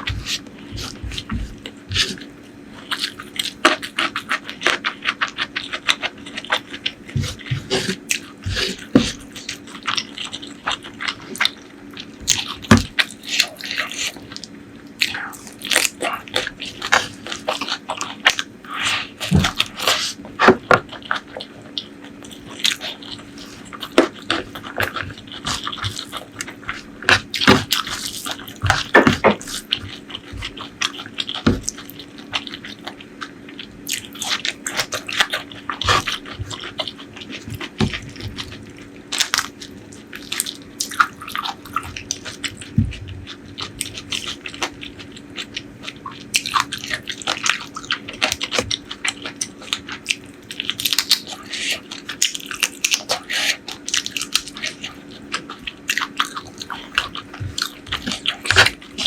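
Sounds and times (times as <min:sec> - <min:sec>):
chewing and lip smacking: 0:00.0 - 0:20.2, 0:20.8 - 0:59.0
faint low hum: 0:00.0 - 0:59.0
food crunching: 0:00.0 - 0:59.0.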